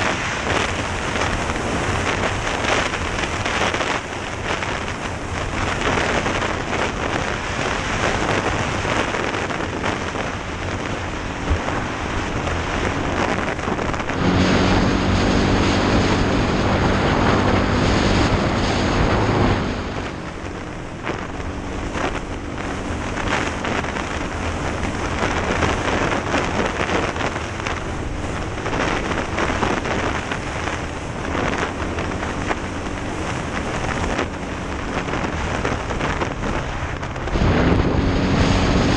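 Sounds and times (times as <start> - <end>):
motorbike engine running: 0.0 - 38.9
wind rush: 0.0 - 38.9.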